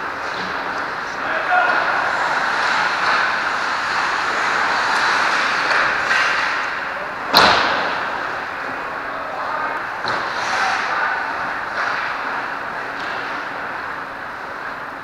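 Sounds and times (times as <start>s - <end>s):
skates scraping on ice: 0.0s - 15.0s.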